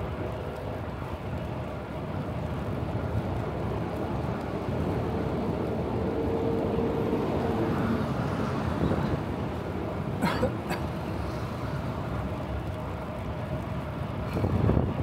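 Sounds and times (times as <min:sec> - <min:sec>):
wind rumble on microphone: 0:00.0 - 0:10.2, 0:10.9 - 0:15.0
street traffic: 0:00.0 - 0:15.0.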